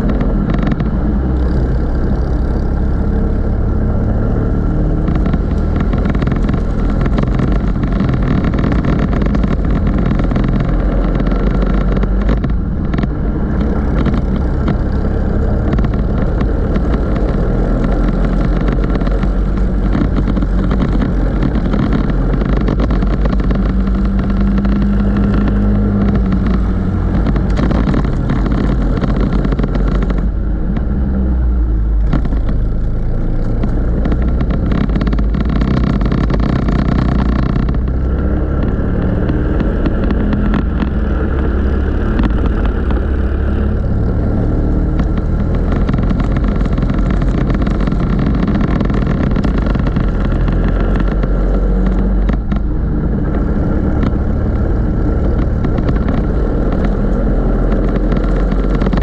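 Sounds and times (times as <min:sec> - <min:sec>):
go-kart engines racing: 0:00.0 - 0:59.0.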